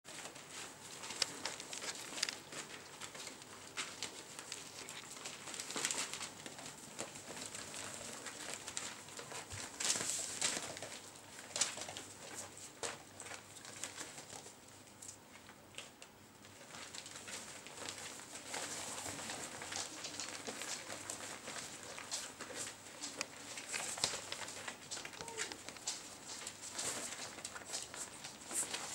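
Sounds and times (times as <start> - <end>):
paws scrabbling: 0.1 - 28.9
plastic crinkling and rustling: 0.1 - 28.9.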